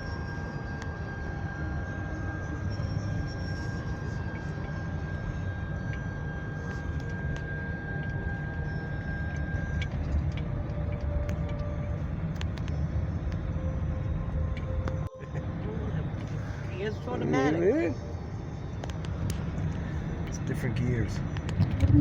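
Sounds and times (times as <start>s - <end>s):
engine and tyre rumble: 0.0s - 17.2s, 18.3s - 22.0s
faint high whine: 0.0s - 22.0s.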